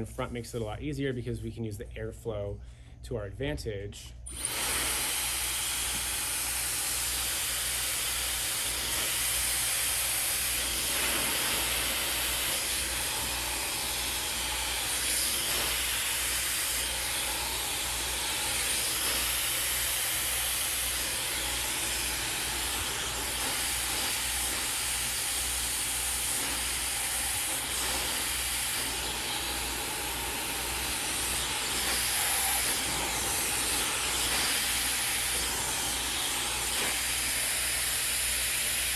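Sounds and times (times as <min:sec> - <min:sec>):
hair dryer blowing: 0:04.3 - 0:38.9.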